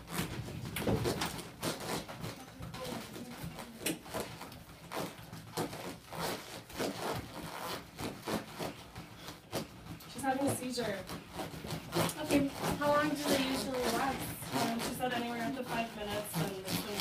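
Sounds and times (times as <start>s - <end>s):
clothing rustling against chair: 0.0s - 17.0s.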